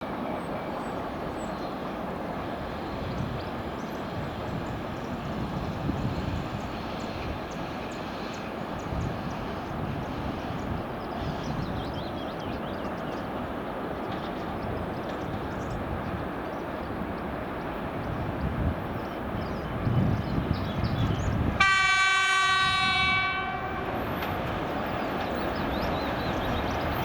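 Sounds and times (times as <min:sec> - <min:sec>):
freight train rumbling: 0:00.0 - 0:27.0.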